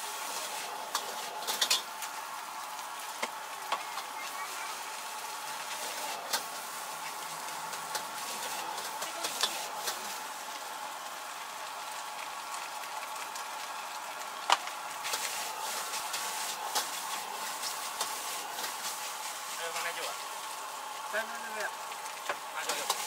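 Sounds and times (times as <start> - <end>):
rice sizzling in a wok: 0.0 - 23.0.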